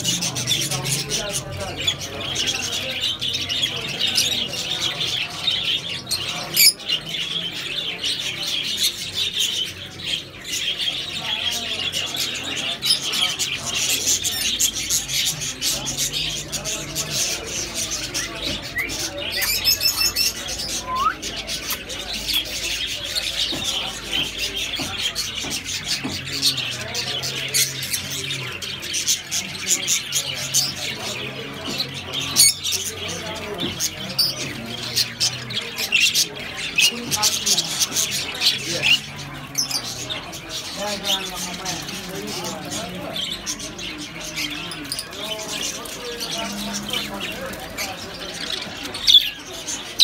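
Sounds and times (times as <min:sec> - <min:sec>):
lovebirds chirping and squawking: 0:00.0 - 0:50.0.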